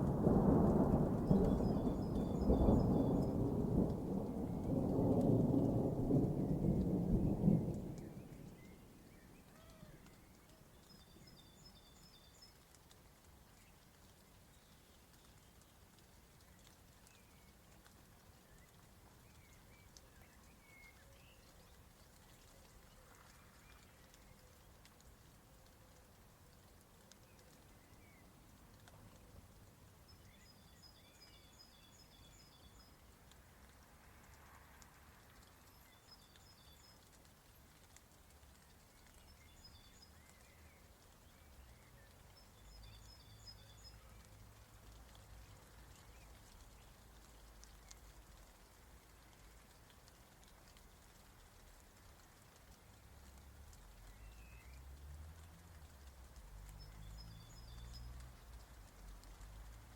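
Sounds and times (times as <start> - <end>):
soft ticks: 9.4 - 59.9.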